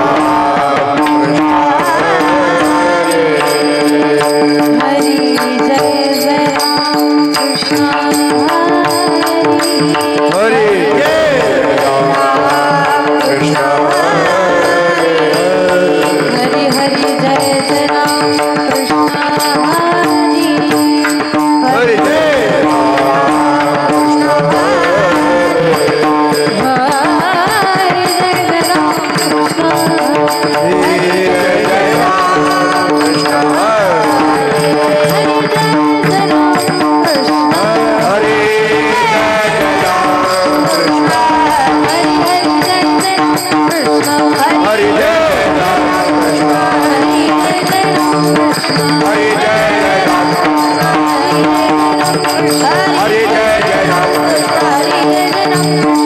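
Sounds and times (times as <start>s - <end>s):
devotional music with tabla: 0.0s - 56.0s.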